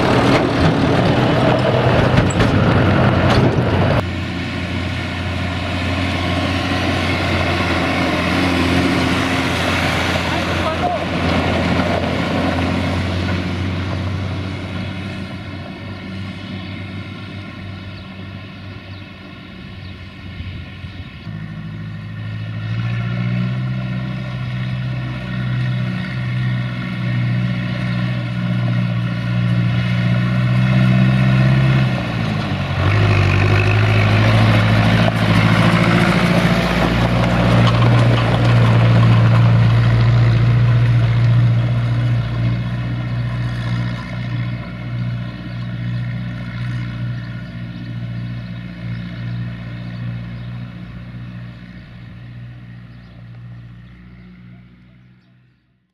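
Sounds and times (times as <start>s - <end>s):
tractor diesel engine passing: 0.0s - 55.8s.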